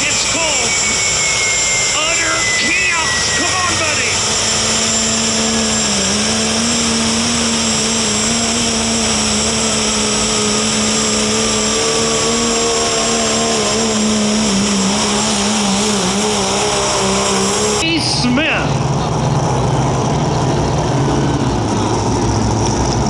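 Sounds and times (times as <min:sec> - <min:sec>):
tractor engine revving high: 0:00.0 - 0:23.0.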